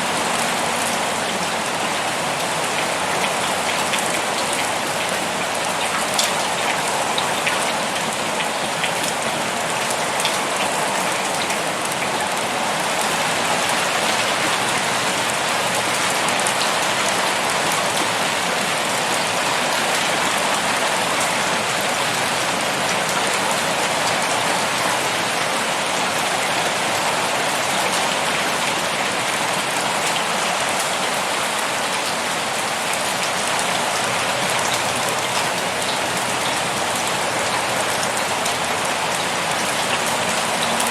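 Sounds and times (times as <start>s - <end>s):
heavy rain pouring: 0.0s - 40.9s
raindrops ticking on surfaces: 0.0s - 40.9s.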